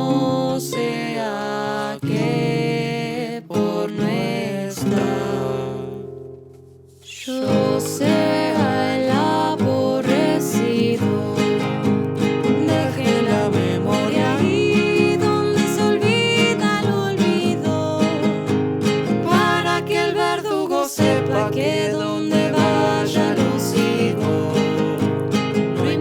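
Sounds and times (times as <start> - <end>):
person singing: 0.0 - 6.2, 7.1 - 18.5, 19.2 - 26.0
acoustic guitar playing: 0.0 - 26.0.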